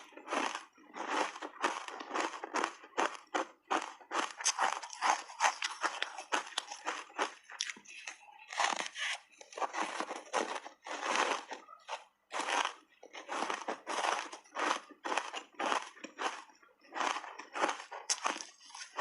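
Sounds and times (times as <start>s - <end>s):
ice being crunched and chewed: 0.0s - 19.0s.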